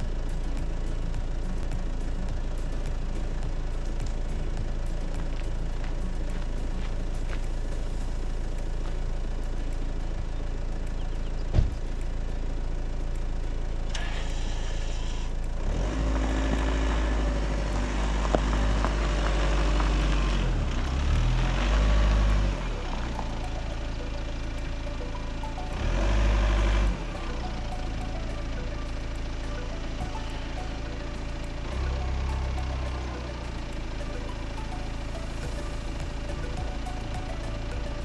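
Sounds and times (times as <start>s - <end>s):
vehicle engine idling and revving: 0.0s - 38.0s.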